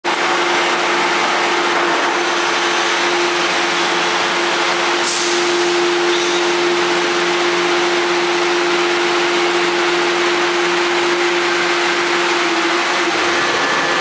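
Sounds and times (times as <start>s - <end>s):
hydraulic press humming and whirring: 0.1s - 14.0s.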